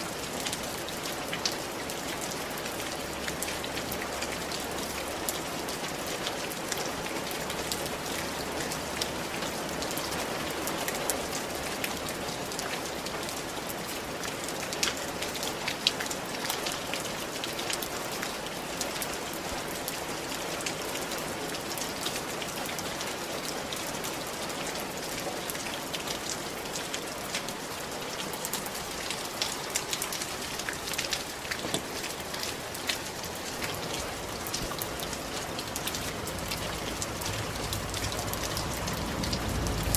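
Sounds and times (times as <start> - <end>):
rain on a tiled roof: 0.0 - 39.9.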